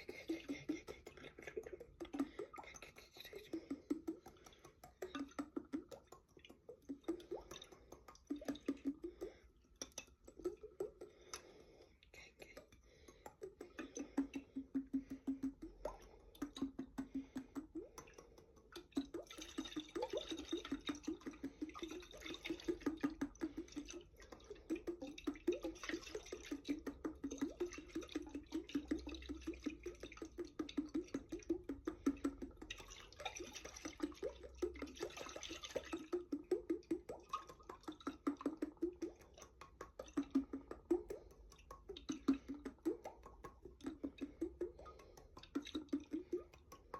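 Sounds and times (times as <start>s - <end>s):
water swishing in jar: 0.0s - 11.6s, 12.5s - 46.9s.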